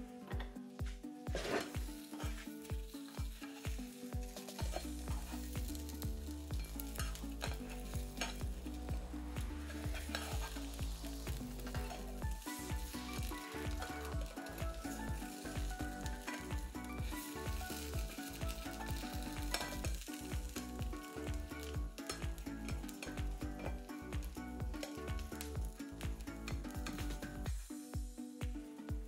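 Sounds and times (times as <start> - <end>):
background music with beat: 0.0 - 29.0
food sizzling in a pan: 1.3 - 28.0.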